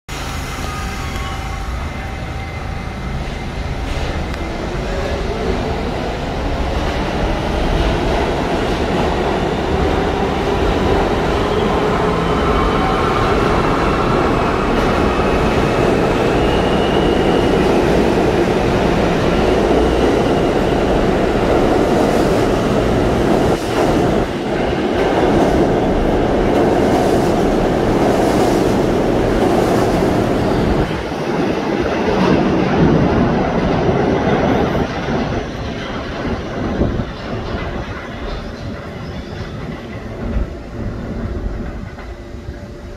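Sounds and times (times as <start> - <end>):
train wheels rumbling on rail: 0.1 - 42.9.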